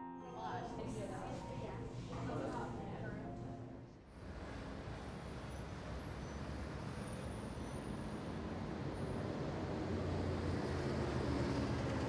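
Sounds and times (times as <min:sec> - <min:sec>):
traffic noise: 0:00.5 - 0:12.0.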